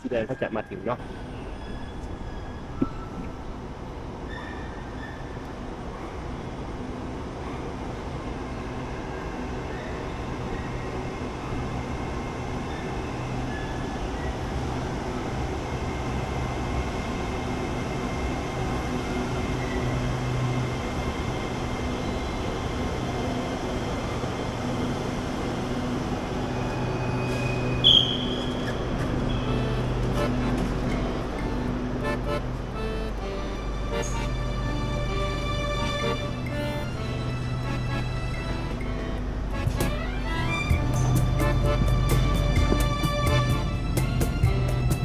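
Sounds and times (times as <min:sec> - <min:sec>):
electric train motors and wheels rumbling: 0:00.0 - 0:45.0.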